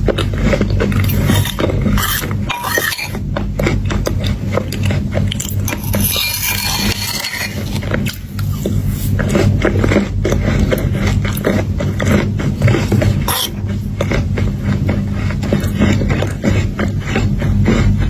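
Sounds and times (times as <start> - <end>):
crunching and chewing chocolate: 0.0 - 18.0
steady low hum: 0.0 - 18.0.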